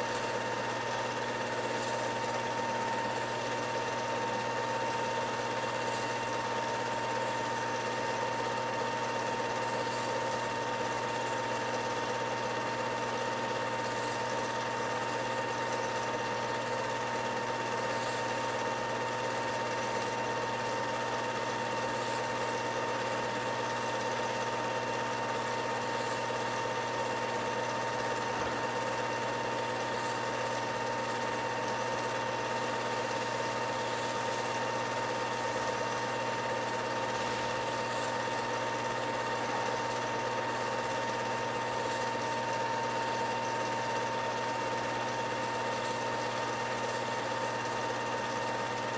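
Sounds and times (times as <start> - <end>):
film projector whirring: 0.0 - 48.9.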